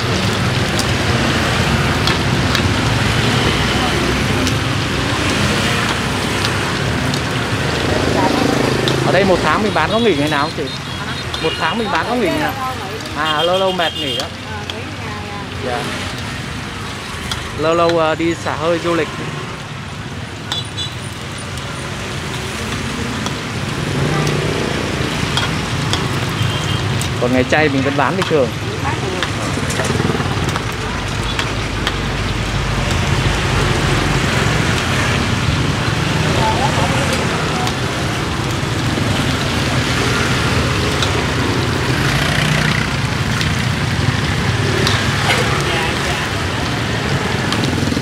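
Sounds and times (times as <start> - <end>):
meat sizzling in hot oil: 0.0 - 47.9
road traffic going by: 0.0 - 48.0.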